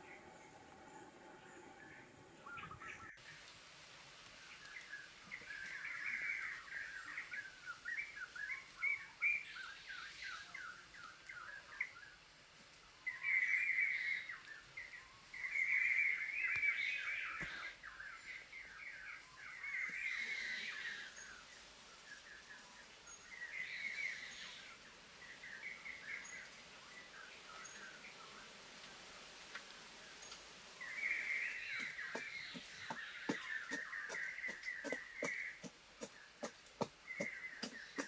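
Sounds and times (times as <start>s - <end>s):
small birds twittering: 0.0s - 3.5s, 4.3s - 29.0s, 30.0s - 38.0s
faint outdoor hiss: 0.0s - 38.0s.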